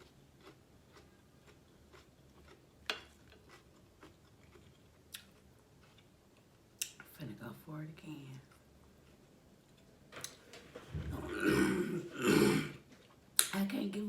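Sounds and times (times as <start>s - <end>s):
faint chewing: 0.0s - 7.1s, 8.3s - 13.6s.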